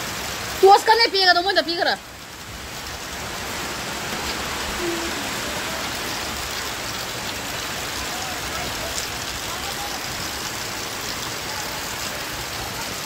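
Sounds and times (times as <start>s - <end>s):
rain pouring: 0.0s - 13.0s.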